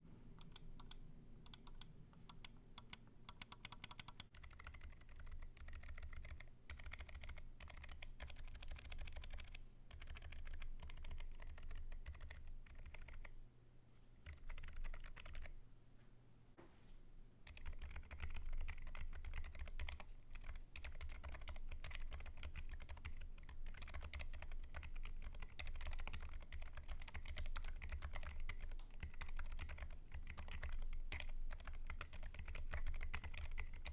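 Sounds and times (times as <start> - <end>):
typing on mechanical keyboard: 0.4 - 13.3, 14.2 - 15.5, 17.5 - 33.9.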